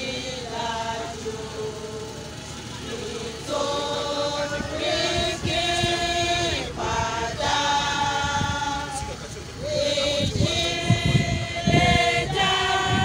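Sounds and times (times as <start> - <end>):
women's choir singing a hymn: 0.0 - 13.0.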